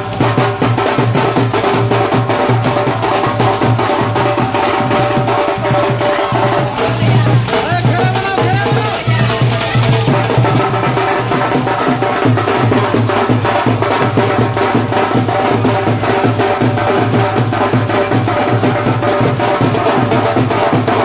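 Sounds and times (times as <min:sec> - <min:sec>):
loud music with fast drumbeat: 0:00.0 - 0:21.0.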